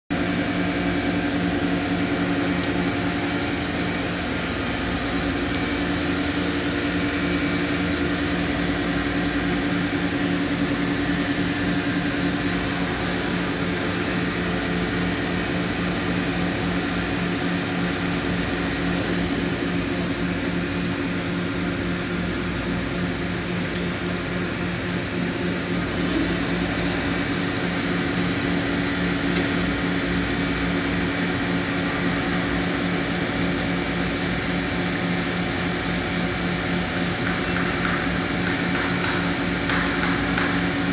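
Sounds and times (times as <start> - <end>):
machine electrical hum and buzz: 0.1 - 40.9.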